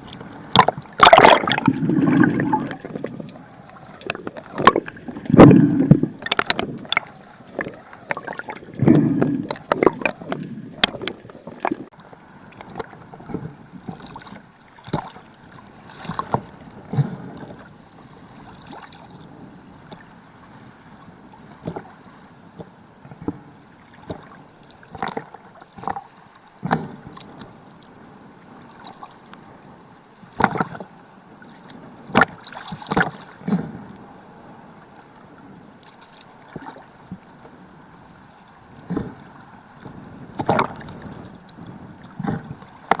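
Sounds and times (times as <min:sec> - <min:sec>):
water splashing and gurgling: 0:00.0 - 0:27.5, 0:30.2 - 0:34.0, 0:34.9 - 0:37.3, 0:38.1 - 0:43.0.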